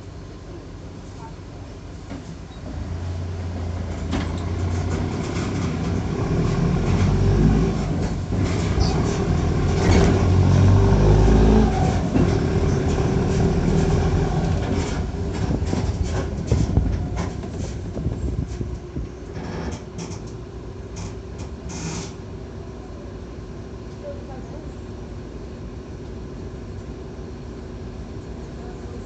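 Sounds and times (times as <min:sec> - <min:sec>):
bus diesel engine under load: 0:00.0 - 0:29.0.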